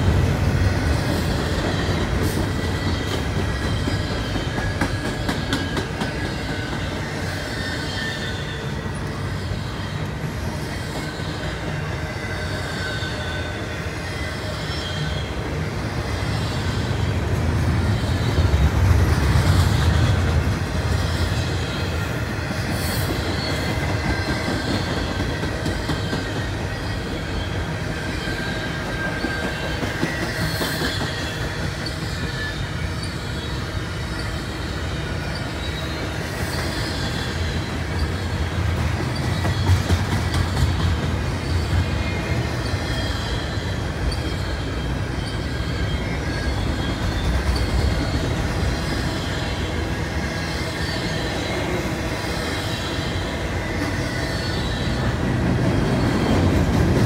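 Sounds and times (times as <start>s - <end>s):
train wheels rumbling on rail: 0.0s - 57.0s
faint wheel squeal: 1.3s - 17.2s, 20.8s - 55.2s.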